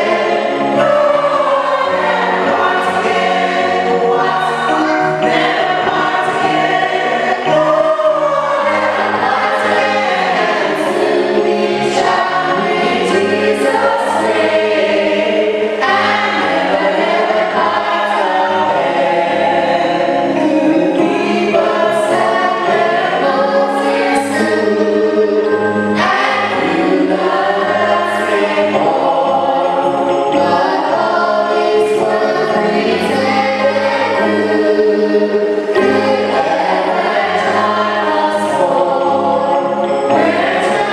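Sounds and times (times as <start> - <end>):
choir singing gospel: 0.0 - 40.9
instrumental accompaniment: 0.0 - 40.9.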